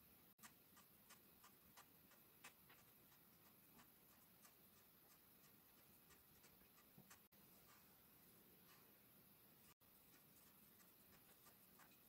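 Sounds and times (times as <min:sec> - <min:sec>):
room hiss: 0:00.0 - 0:12.0
ink brush ticking on paper: 0:00.4 - 0:12.0.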